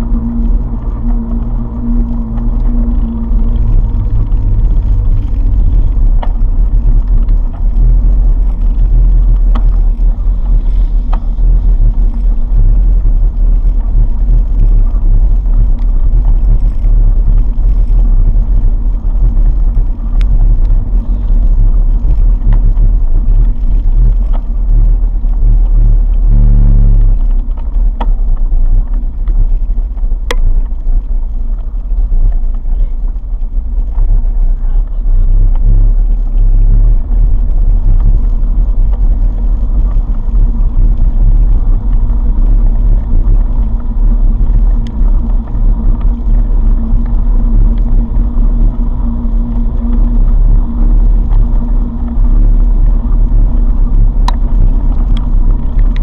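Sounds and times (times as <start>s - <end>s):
engine low rumble: 0.0s - 56.0s.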